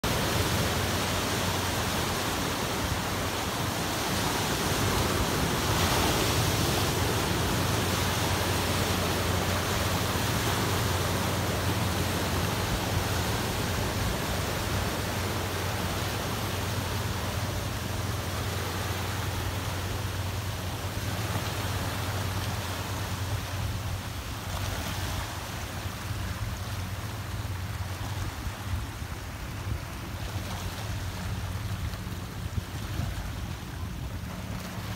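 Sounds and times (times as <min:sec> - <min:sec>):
waves washing over rocky shore: 0:00.0 - 0:34.9.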